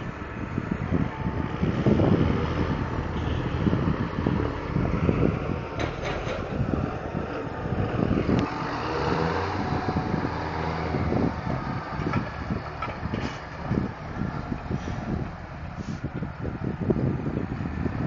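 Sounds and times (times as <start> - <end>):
tractor diesel engines running: 0.0 - 18.0
wind rumbling on microphone: 0.0 - 18.0.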